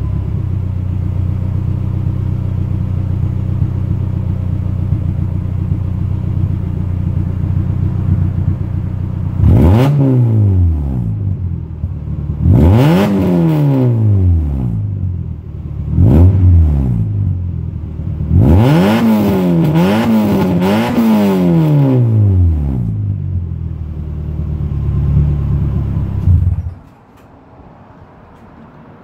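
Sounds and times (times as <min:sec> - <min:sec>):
car engine revving and idling: 0:00.0 - 0:26.8.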